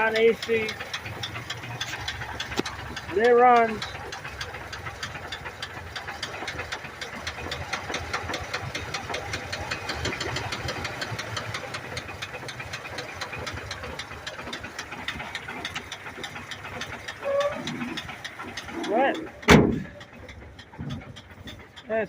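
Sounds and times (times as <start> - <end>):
engine idling with rod knock: 0.0 - 22.0.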